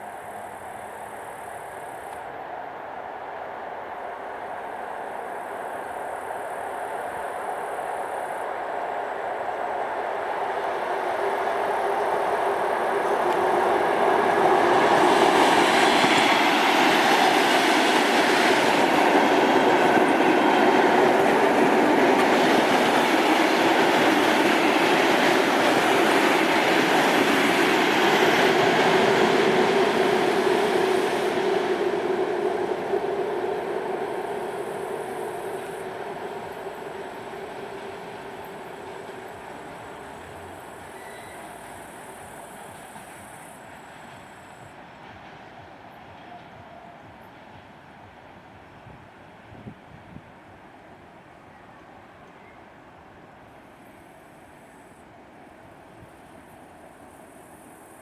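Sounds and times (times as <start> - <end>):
train passing: 0.0 - 58.0.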